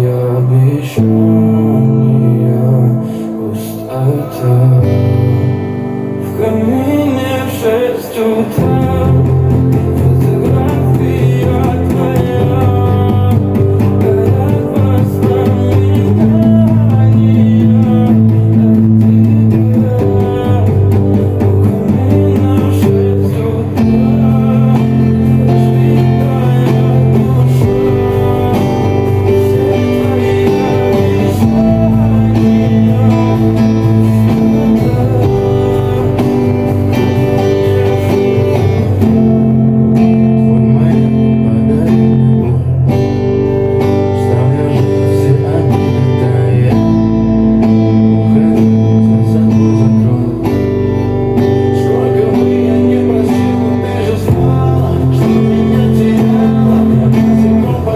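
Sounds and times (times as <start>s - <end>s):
instrumental guitar music: 0.0s - 57.9s.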